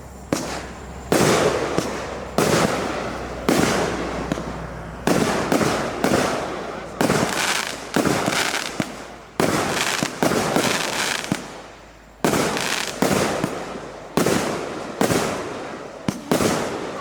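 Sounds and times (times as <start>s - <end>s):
fireworks crackling tail: 0.0s - 17.0s
fireworks firing sharp reports: 0.0s - 17.0s.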